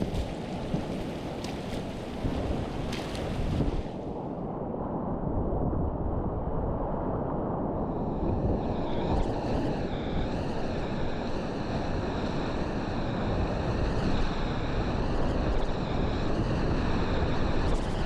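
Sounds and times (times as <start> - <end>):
wavering higher water rush: 0.0 - 4.4, 7.7 - 18.0.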